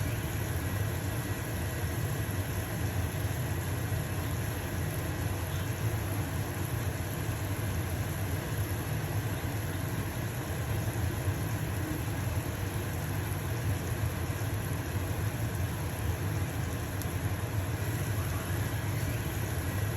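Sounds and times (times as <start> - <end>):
pancake sizzling in a pan: 0.0 - 19.9
range hood fan humming: 0.0 - 19.9.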